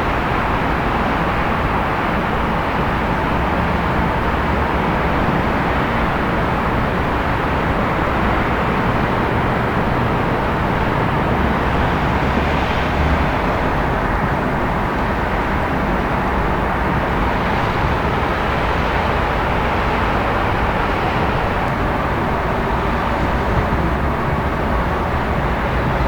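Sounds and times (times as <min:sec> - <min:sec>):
distant traffic noise: 0:00.0 - 0:26.0.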